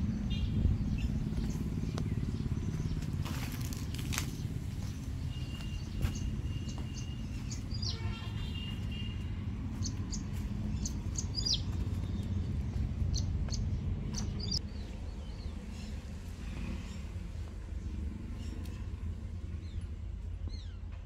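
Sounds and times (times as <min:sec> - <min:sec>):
steady low rumble: 0:00.0 - 0:08.0, 0:08.8 - 0:21.0
small birds chirping: 0:00.0 - 0:21.0.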